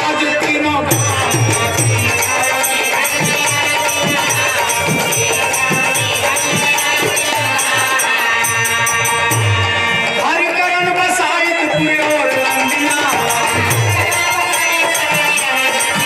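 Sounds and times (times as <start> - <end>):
drum steady beat: 0.0 - 16.0
jingling metal percussion: 0.8 - 11.0, 11.6 - 16.0.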